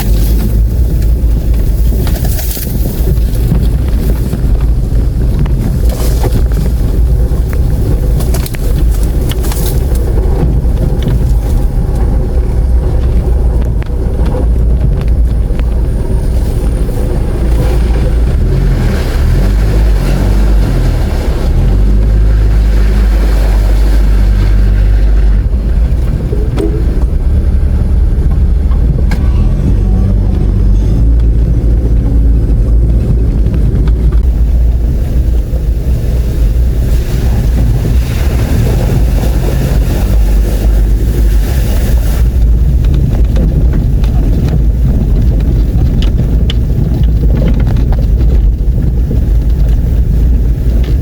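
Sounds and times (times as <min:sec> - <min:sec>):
vehicle engine rumbling: 0:00.0 - 0:51.0.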